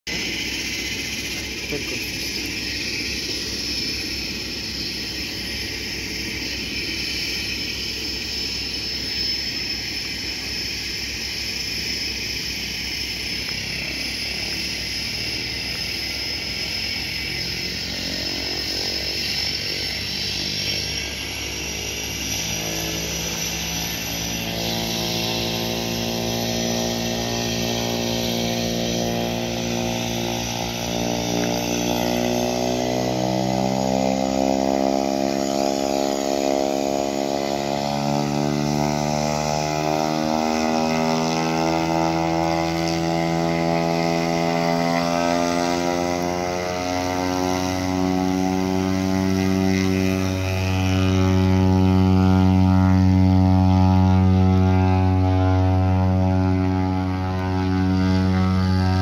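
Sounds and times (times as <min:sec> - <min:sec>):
buzzing propeller drone: 0:00.0 - 0:59.0
turbine whine: 0:00.0 - 0:59.0.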